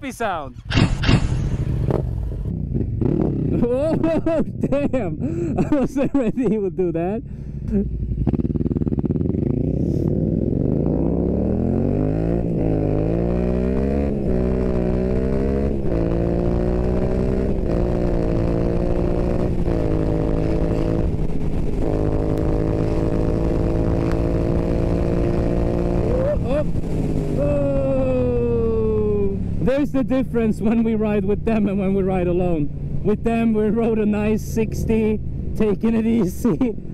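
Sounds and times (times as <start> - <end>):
motorcycle engine accelerating and upshifting: 0.7 - 36.9.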